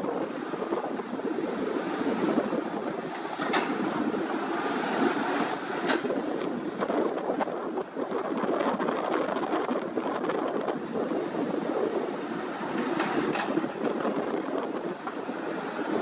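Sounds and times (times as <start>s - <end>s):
excavator diesel and hydraulic drone: 0.0s - 16.0s.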